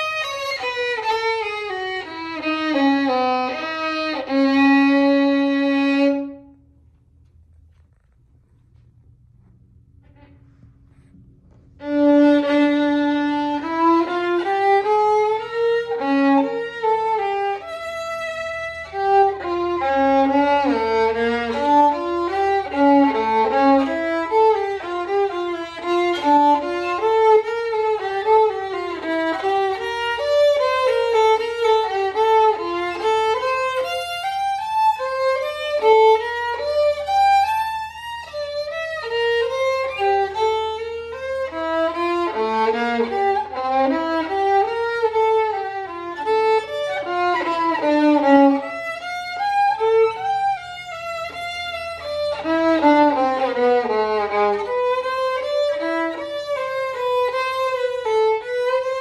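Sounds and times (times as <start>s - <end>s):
solo violin: 0.0s - 59.0s.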